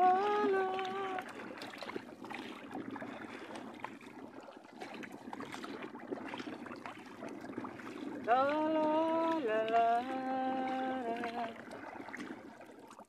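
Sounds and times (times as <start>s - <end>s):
paddle splashing water: 0.0s - 13.0s.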